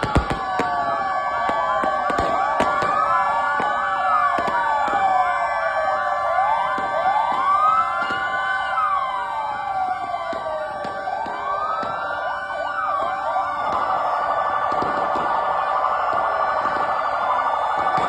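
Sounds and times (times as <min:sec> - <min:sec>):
fire engine sirens wailing: 0:00.0 - 0:18.0
steady held siren tones: 0:00.0 - 0:18.0.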